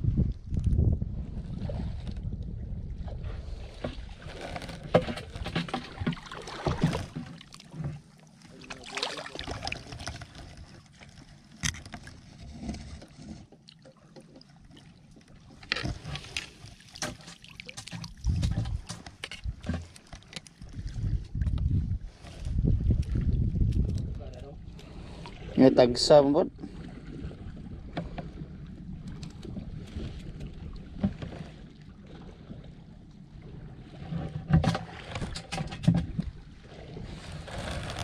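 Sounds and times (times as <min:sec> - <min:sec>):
water splashing and sloshing: 0:00.0 - 0:38.0.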